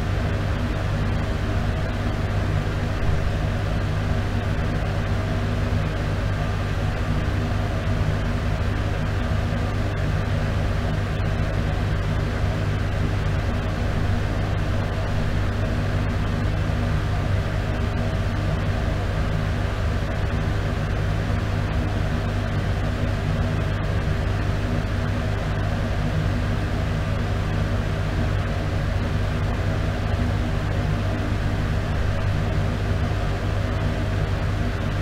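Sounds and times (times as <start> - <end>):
exhaust fan humming: 0.0 - 35.0.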